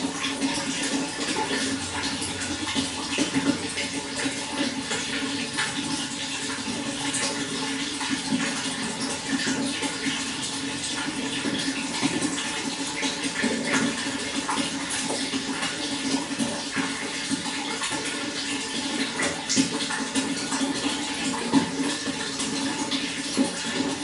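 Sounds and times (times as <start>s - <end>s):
running water gurgling: 0.0s - 24.0s.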